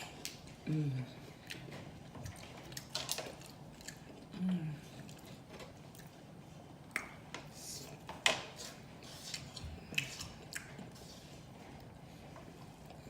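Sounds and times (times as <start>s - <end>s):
person chewing: 0.0s - 6.2s, 6.8s - 12.0s.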